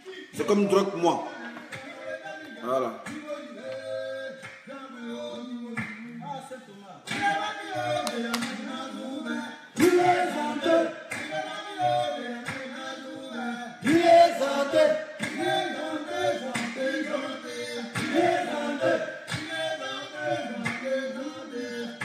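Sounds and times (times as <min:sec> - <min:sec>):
men singing a cappella: 0:00.0 - 0:22.0.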